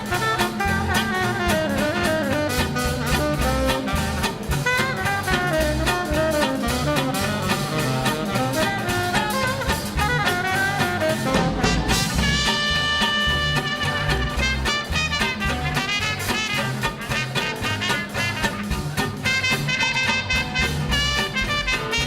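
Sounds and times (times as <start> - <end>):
drum kit beat: 0.0 - 22.0
horn melody: 0.0 - 22.0.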